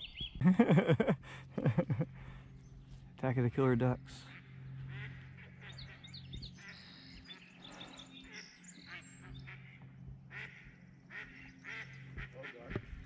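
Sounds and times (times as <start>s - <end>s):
ducks quacking: 0.0s - 13.0s
steady low hum: 0.0s - 13.0s.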